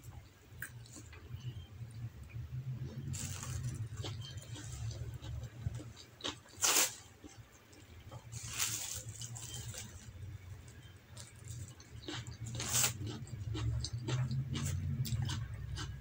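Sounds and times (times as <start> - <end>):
low steady hum: 0.0 - 16.0
person chewing rice: 2.7 - 16.0.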